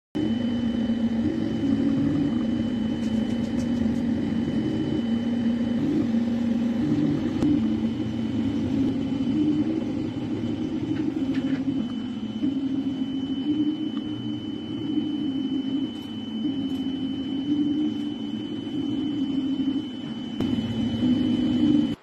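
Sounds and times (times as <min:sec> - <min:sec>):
faint high whine: 0:00.2 - 0:22.0
stepper motors humming: 0:00.2 - 0:22.0.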